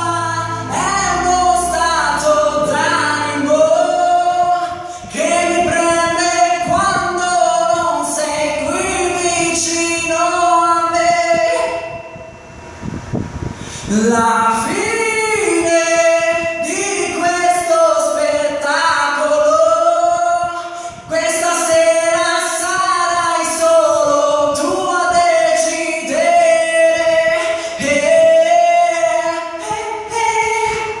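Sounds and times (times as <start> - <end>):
man singing a pop ballad: 0.0 - 12.0, 13.8 - 31.0.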